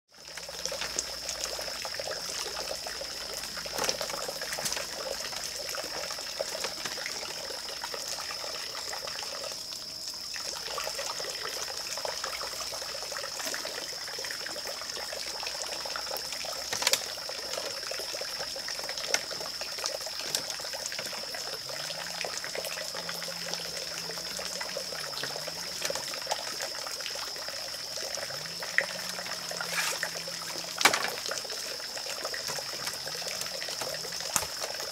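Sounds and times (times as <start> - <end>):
insect drone: 0.1 - 34.9
trickling water: 0.1 - 34.9.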